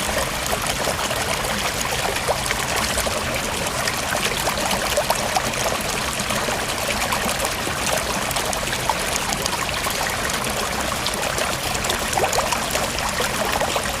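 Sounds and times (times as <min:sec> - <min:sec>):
water splashing and gurgling: 0:00.0 - 0:14.0.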